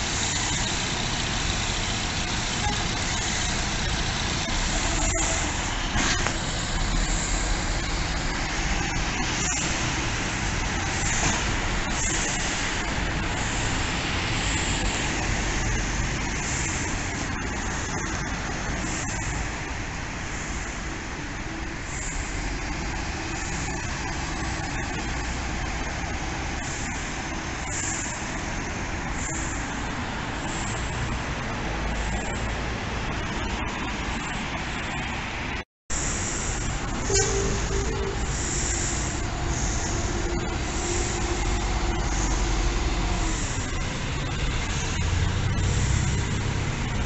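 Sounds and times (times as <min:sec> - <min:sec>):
bus engine running: 0:00.0 - 0:47.0
road traffic noise: 0:00.0 - 0:47.0.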